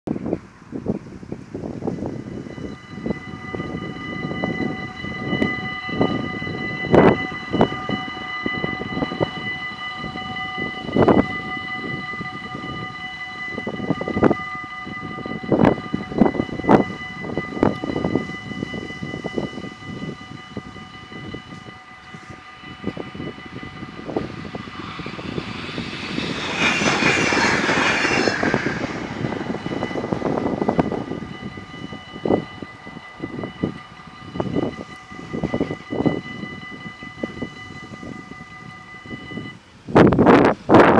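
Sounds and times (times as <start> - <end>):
train passing: 0.1 - 40.9
level-crossing warning bells: 0.7 - 40.9.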